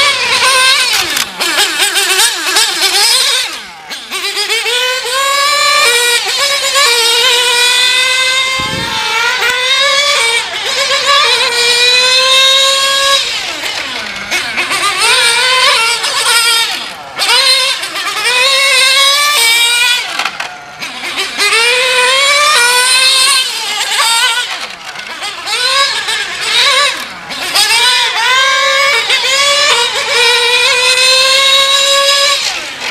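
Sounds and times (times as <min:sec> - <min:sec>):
model car engine whining: 0:00.0 - 0:32.9.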